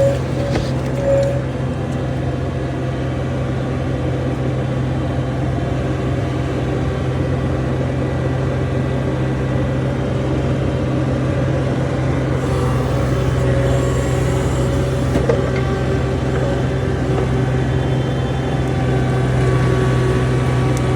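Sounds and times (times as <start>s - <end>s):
diesel engine droning: 0.0s - 20.9s.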